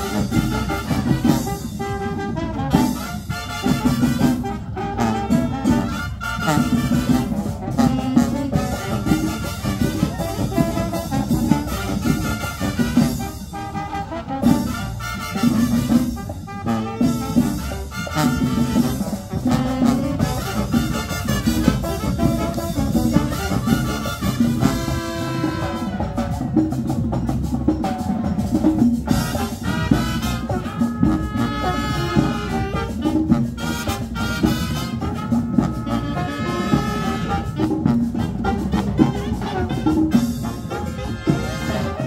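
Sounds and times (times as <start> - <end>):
marching band playing latin dance tune: 0.0 - 42.0.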